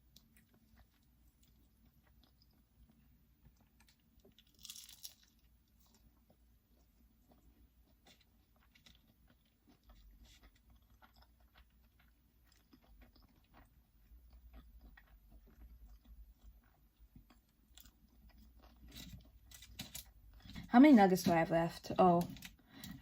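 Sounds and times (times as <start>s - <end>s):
faint chewing: 0.0s - 20.7s.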